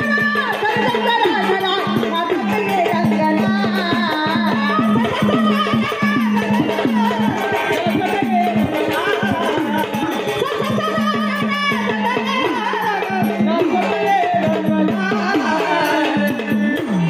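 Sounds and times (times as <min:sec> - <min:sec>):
rapid hand-drum strokes: 0:00.0 - 0:17.0.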